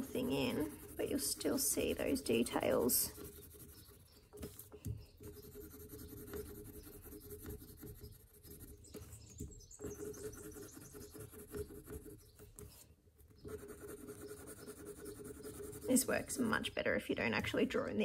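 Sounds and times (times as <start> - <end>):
pencil scratching on paper: 0.0 - 12.8, 13.4 - 16.8.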